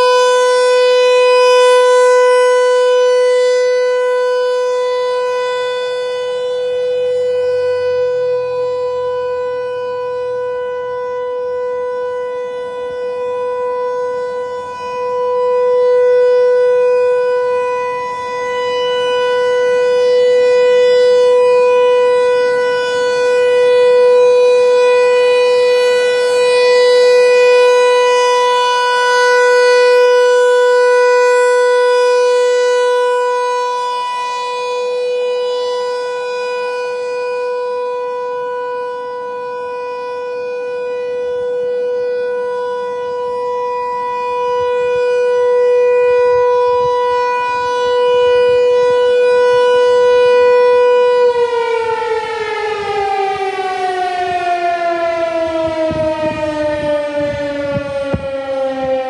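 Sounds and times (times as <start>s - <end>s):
rotating warning siren steady tone: 0.0s - 59.0s.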